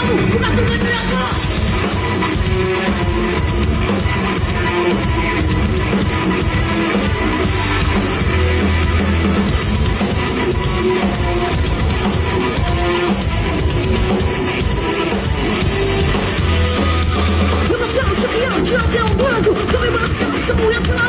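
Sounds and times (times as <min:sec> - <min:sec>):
drum kit: 0:00.0 - 0:21.0
electric guitar: 0:00.0 - 0:21.0.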